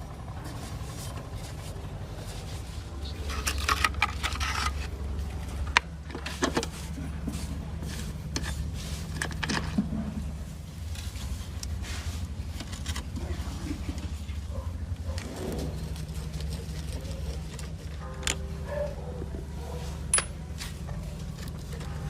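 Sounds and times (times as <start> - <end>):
steady low hum: 0.0 - 22.0
tools being handled: 0.5 - 10.0, 10.8 - 14.1, 15.1 - 22.0.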